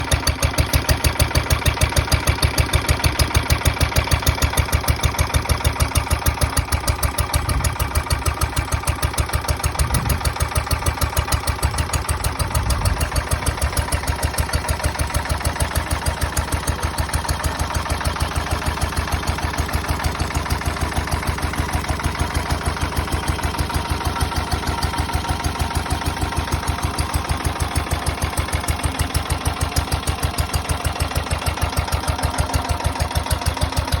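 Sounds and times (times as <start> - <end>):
stationary engine running: 0.0 - 34.0.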